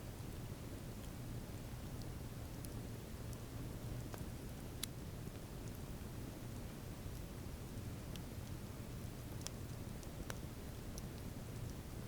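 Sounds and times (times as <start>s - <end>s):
campfire rumble: 0.0s - 12.0s.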